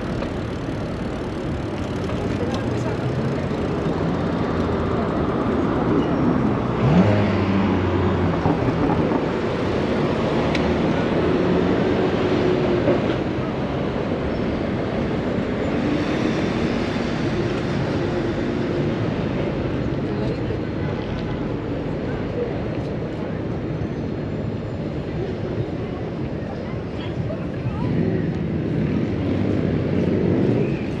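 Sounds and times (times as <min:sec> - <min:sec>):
city road traffic: 0:00.0 - 0:31.0
motor vehicle engine hum: 0:00.0 - 0:31.0.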